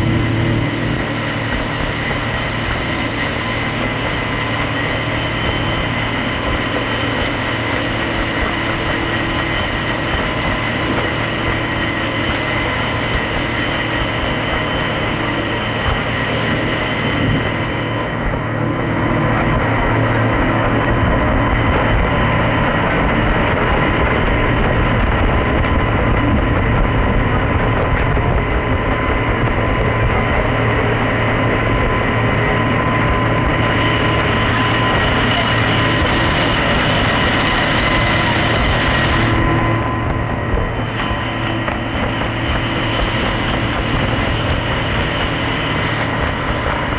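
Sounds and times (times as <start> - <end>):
boat engine running: 0.0 - 46.9
water rushing: 0.0 - 46.9.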